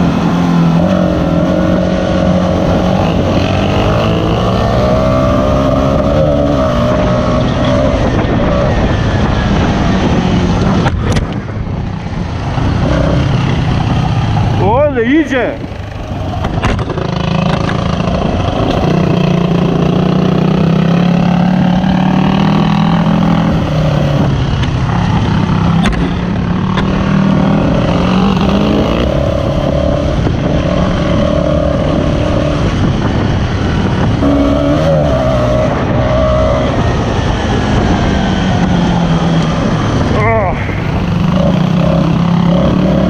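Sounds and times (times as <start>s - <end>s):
off-road engine running hard: 0.0s - 43.0s
wind rush on microphone: 0.0s - 43.0s.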